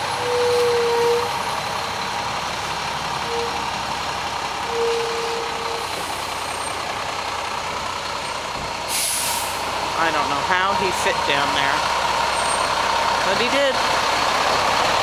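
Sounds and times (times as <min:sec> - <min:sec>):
concrete mixer truck running: 0:00.0 - 0:15.0.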